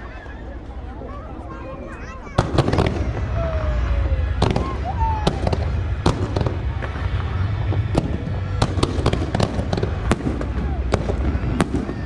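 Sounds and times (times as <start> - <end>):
continuous low rumble: 0.0 - 12.0
firework bangs: 2.2 - 12.0.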